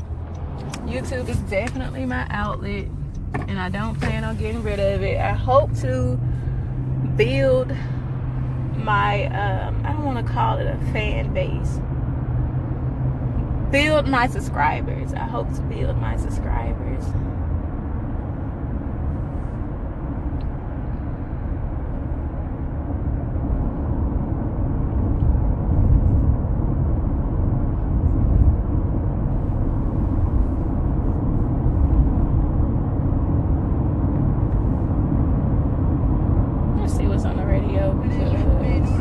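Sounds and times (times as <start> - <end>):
road and engine rumble in car: 0.0 - 39.0.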